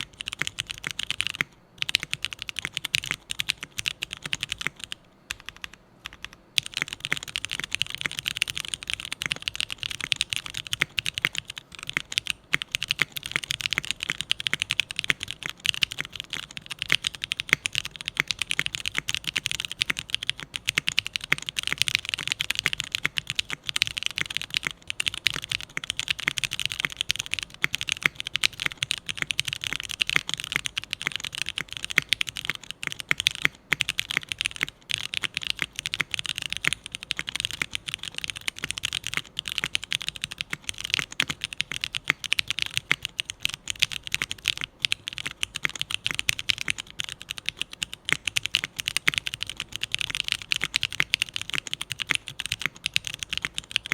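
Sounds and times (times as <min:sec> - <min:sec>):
fast mechanical keyboard typing: 0:00.0 - 0:53.9.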